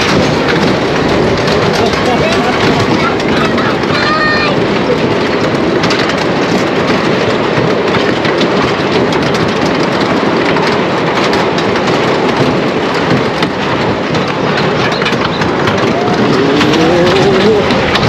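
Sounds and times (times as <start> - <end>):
coaster wheels rumbling on rails: 0.0 - 18.0.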